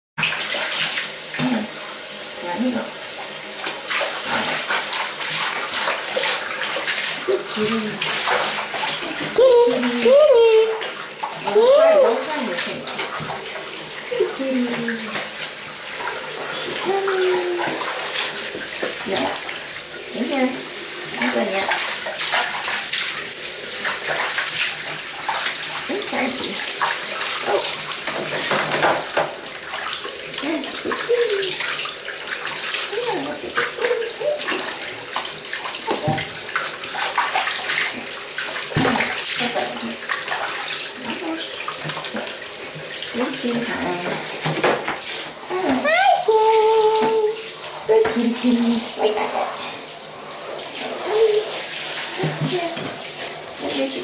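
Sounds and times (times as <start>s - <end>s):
water splashing in a bathtub: 0.2s - 54.0s.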